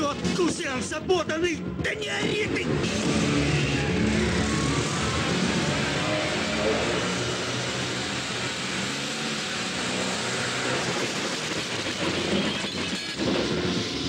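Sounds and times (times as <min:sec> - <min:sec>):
car engine running hard: 0:00.0 - 0:14.0
road and tyre noise: 0:00.0 - 0:14.0.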